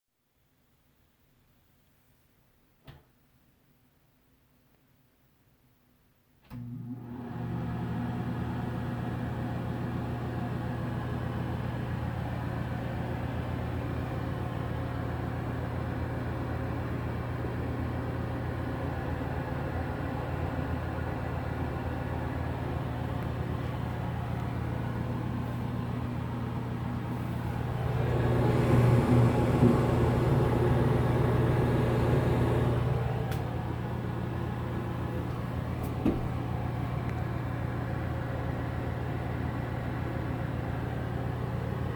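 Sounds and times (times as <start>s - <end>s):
exhaust fan running: 7.0s - 41.9s.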